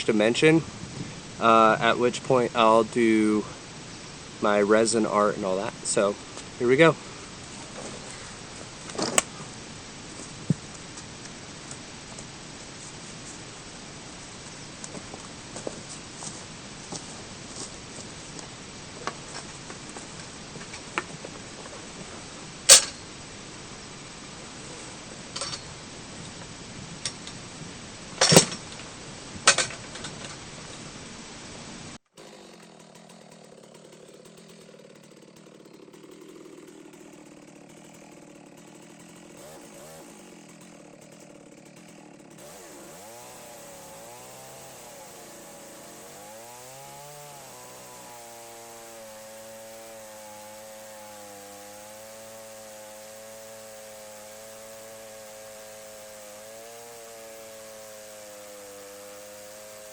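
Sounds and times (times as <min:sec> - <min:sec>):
chainsaw ripping through log: 0:00.2 - 0:23.2, 0:28.2 - 0:30.4, 0:32.1 - 0:59.9.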